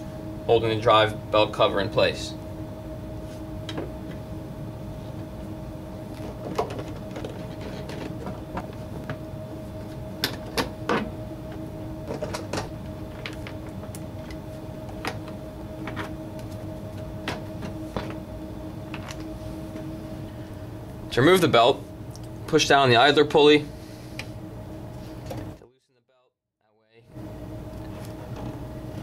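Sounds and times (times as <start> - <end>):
steady low hum: 0.0 - 25.7, 27.0 - 29.0.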